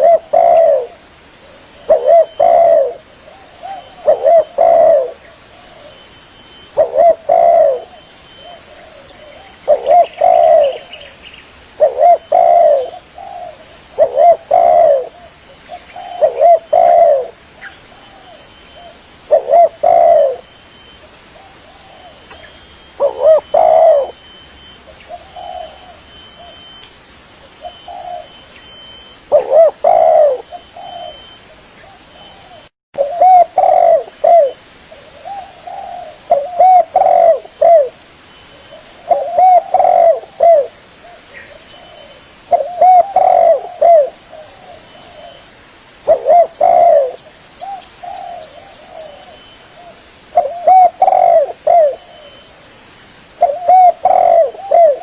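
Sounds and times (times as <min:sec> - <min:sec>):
dove cooing: 0:00.0 - 0:11.2, 0:11.8 - 0:26.8, 0:27.6 - 0:52.5, 0:53.4 - 0:55.0.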